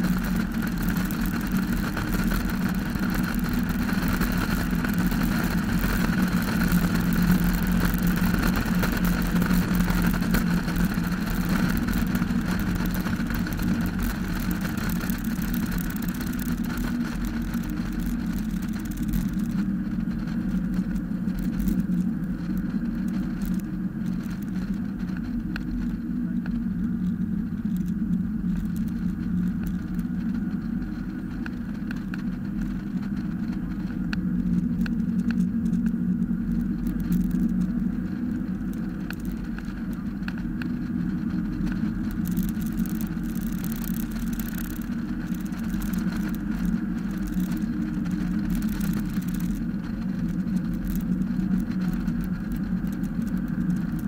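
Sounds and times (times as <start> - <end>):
car engine under load: 0.0 - 54.0
wind and road noise: 0.0 - 54.0.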